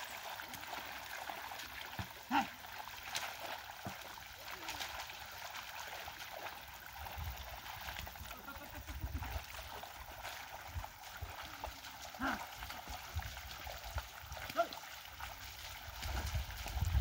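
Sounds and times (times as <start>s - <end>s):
muddy water sloshing: 0.0s - 17.0s.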